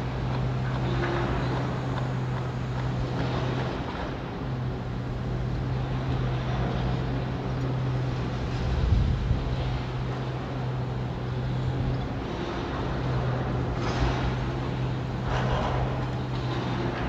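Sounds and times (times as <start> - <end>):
construction site noise: 0.0 - 17.0
demolition machinery engine running: 0.0 - 17.0.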